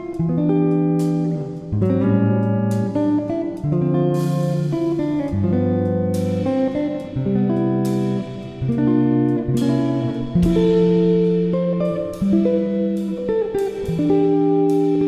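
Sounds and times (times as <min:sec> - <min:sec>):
guitar background music: 0:00.0 - 0:15.0.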